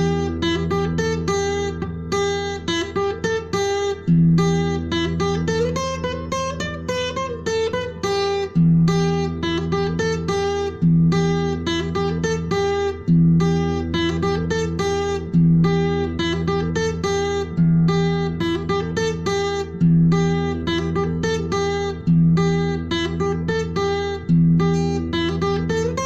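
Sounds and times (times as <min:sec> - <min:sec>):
acoustic guitar instrumental piece: 0:00.0 - 0:26.0.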